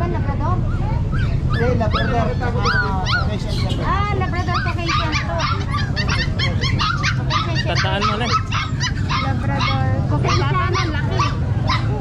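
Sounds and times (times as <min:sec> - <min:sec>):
puppies yipping and whimpering: 0:00.6 - 0:12.0.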